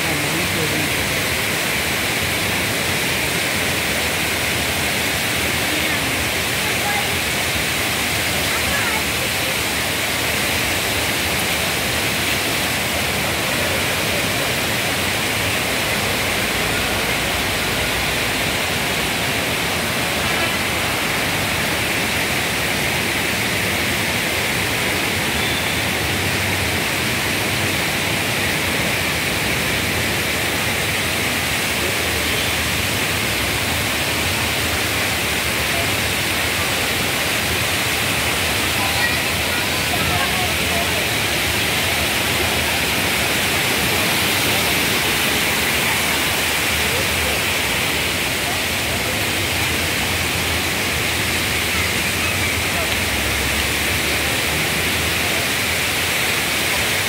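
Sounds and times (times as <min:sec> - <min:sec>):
water rushing in a channel: 0:00.0 - 0:57.0
water spilling over a weir: 0:00.1 - 0:57.0.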